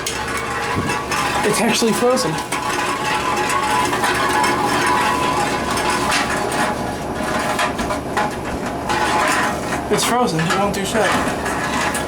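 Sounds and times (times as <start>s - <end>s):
vending machine mechanism whirring: 0.0s - 12.0s.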